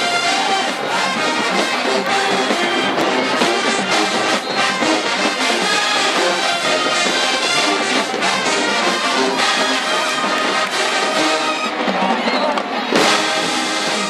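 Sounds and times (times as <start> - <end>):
brass section playing: 0.0 - 12.2, 12.9 - 14.0
drumline beat: 0.0 - 14.0.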